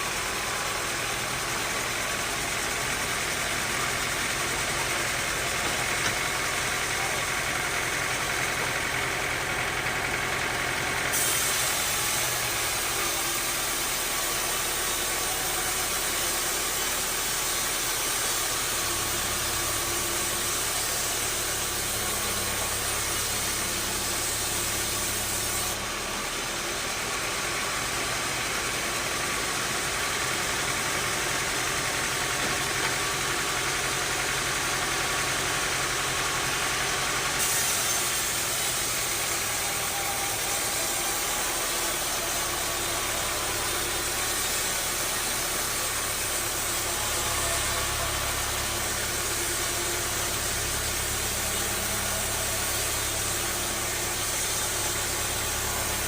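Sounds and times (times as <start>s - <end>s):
sawmill engine drone: 0.0s - 56.0s.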